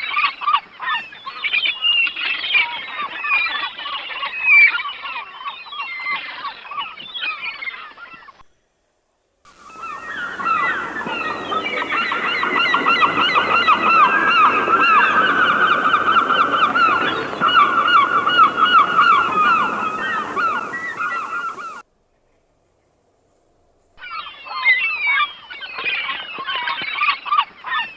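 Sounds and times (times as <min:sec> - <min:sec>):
flock of birds calling: 0:00.0 - 0:08.4, 0:09.5 - 0:21.9, 0:24.0 - 0:27.9.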